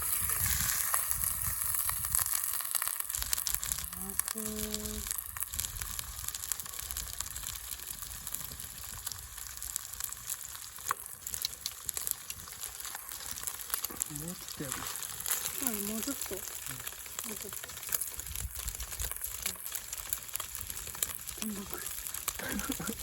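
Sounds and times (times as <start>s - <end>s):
steak sizzling in a pan: 0.0s - 23.0s.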